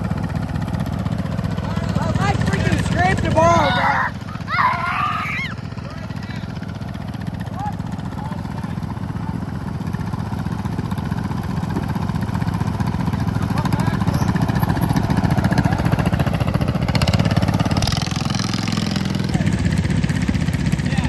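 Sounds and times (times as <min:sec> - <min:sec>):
riding lawn mower engine: 0:00.0 - 0:21.0.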